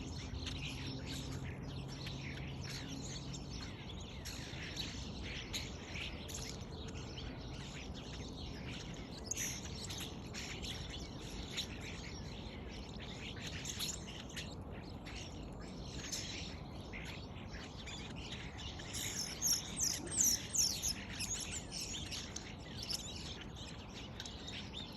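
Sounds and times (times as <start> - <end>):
starlings chirping and whistling: 0.0 - 24.9.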